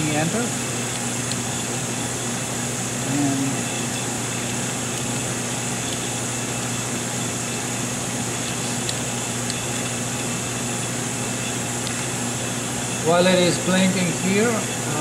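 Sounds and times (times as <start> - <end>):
fan and machinery hum: 0.0 - 15.0.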